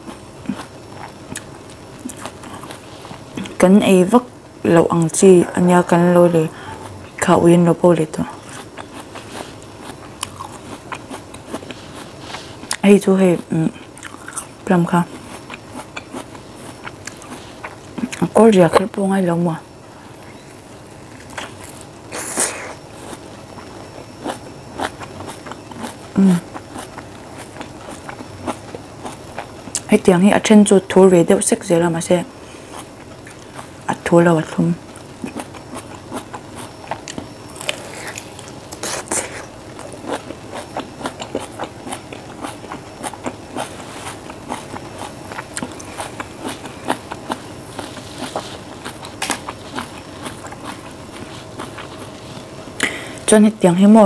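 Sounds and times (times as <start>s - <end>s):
wet chewing crackles: 0.0s - 54.0s.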